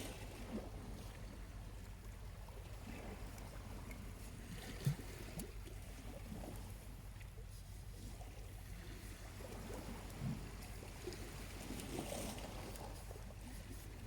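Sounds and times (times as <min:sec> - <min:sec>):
small waves lapping at shore: 0:00.0 - 0:14.0.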